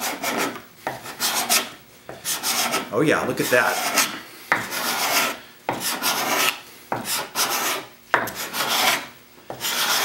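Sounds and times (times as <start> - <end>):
putty knife scraping wood: 0.0 - 10.0.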